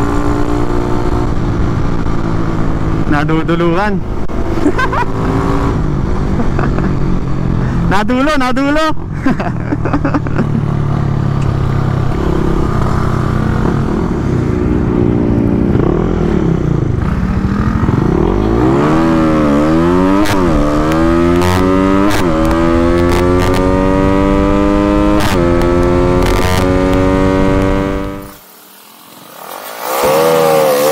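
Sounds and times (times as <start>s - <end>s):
motorcycle engine revving: 0.0s - 7.9s, 10.2s - 30.9s.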